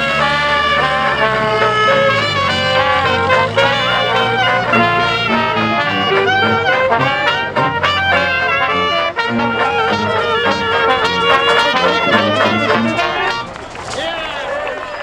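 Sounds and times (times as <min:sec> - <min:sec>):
brass music: 0:00.0 - 0:13.6.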